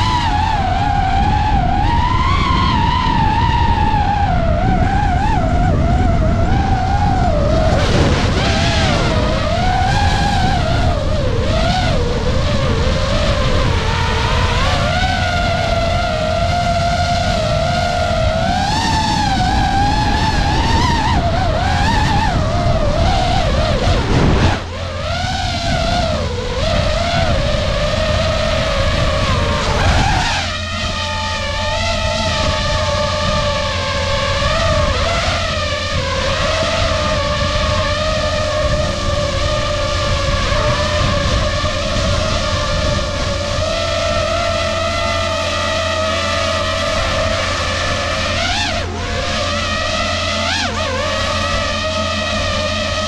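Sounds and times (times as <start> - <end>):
drone propellers whining: 0.0 - 53.0
low rumble: 0.0 - 53.0
wind rushing: 0.0 - 53.0.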